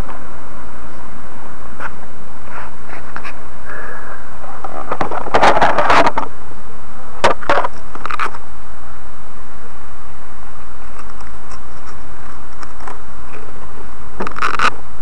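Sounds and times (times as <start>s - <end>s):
crackling bursts: 0.0s - 15.0s
loud steady hiss: 0.0s - 15.0s.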